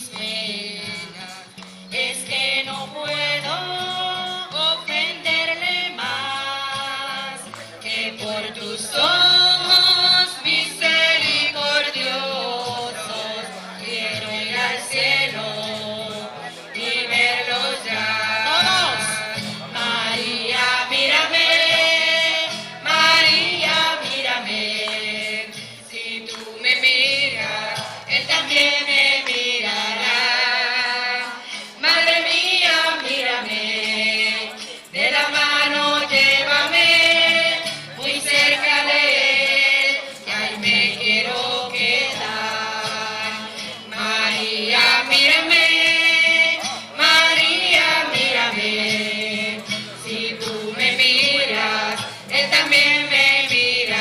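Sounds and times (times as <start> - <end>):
group singing a hymn: 0.0 - 54.0
guitar accompaniment: 0.0 - 54.0.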